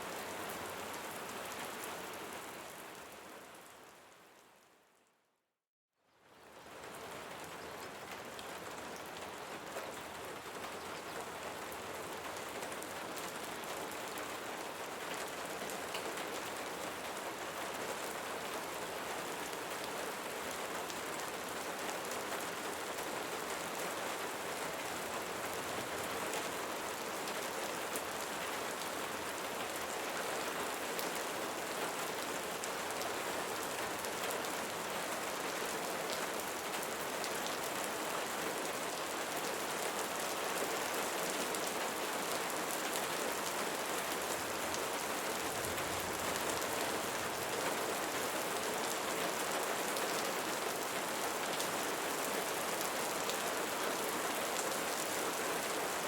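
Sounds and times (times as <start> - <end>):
steady rainfall: 0.0 - 4.7, 6.2 - 56.0.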